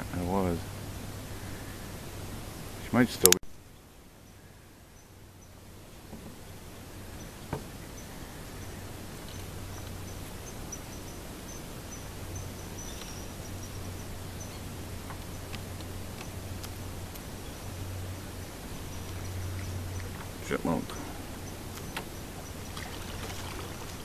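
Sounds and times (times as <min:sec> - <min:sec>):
low steady hum: 0:00.0 - 0:24.0
high insect tone: 0:03.5 - 0:24.0.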